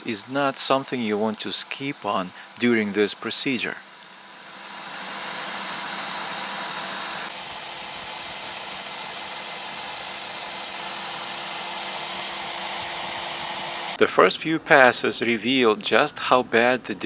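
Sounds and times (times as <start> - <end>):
grinding stone whirring: 0.0 - 14.0.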